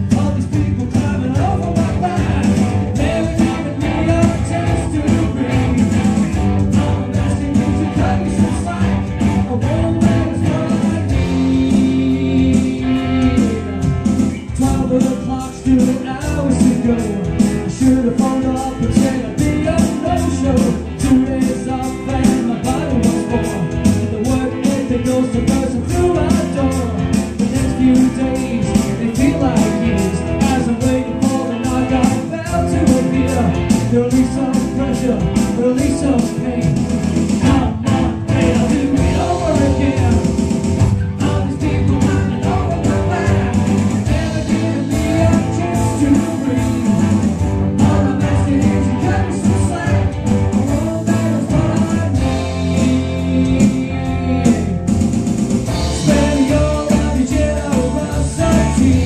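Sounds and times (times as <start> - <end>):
bass guitar: 0.0 - 59.0
drums: 0.0 - 59.0
electric guitar: 0.0 - 59.0.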